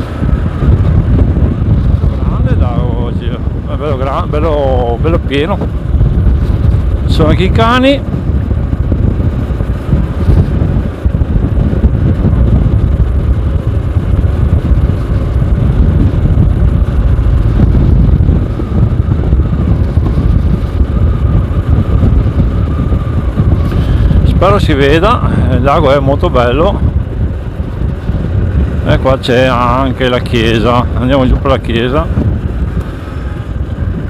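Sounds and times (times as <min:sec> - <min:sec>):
motorcycle engine running: 0:00.0 - 0:34.0
wind rumble on microphone: 0:00.0 - 0:34.0.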